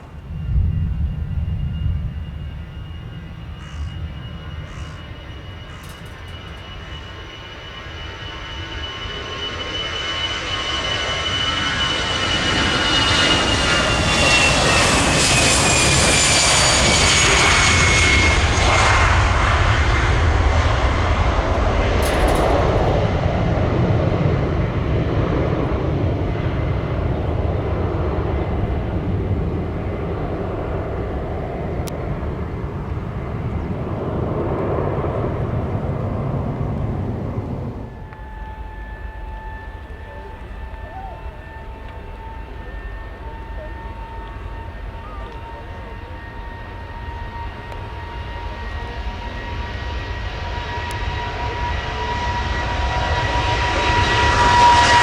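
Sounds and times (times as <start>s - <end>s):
deep jet rumble: 0.0s - 55.0s
jet engine whine: 0.0s - 55.0s.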